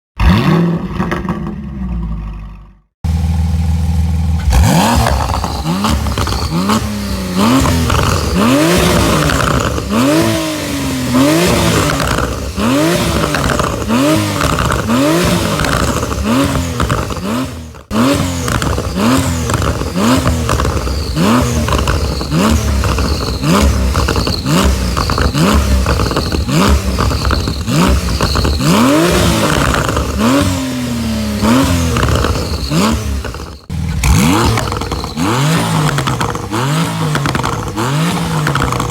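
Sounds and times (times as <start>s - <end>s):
car engine throttle blips: 3.1s - 38.9s.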